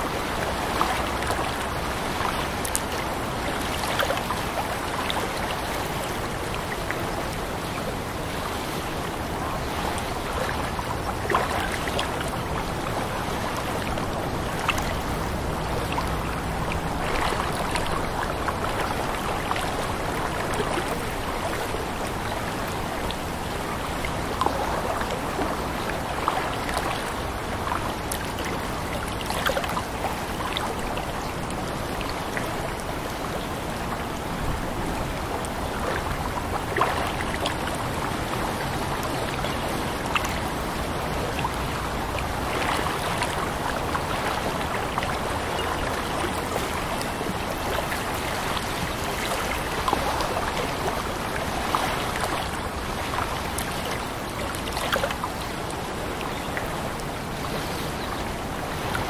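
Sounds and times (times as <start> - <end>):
rush of moving water: 0.0 - 59.0
water splashes and drips: 0.0 - 59.0.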